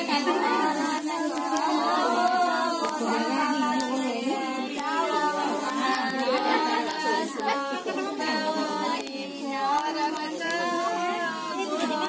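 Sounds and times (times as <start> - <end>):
women singing devotional song: 0.0 - 12.0.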